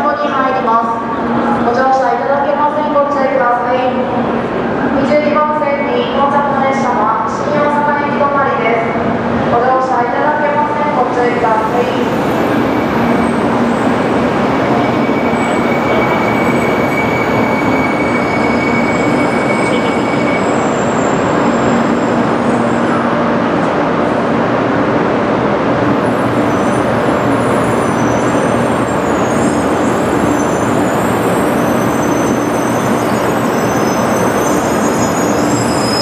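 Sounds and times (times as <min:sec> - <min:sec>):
train rumbling: 0:00.8 - 0:36.0.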